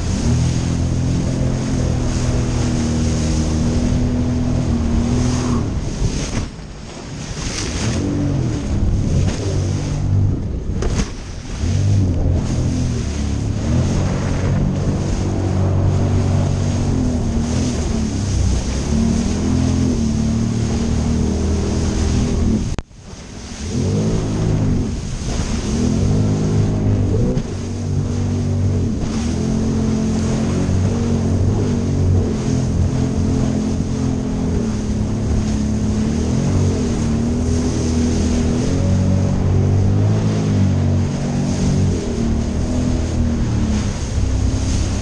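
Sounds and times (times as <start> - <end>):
water splashing: 0.0 - 45.0
watercraft engine running hard: 0.0 - 45.0
wind noise: 0.0 - 45.0.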